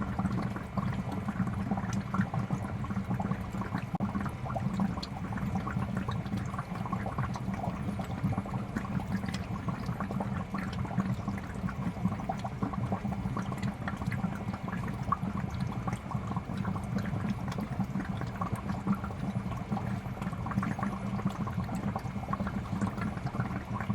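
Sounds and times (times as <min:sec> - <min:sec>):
aquarium bubbles gurgling: 0:00.0 - 0:23.9.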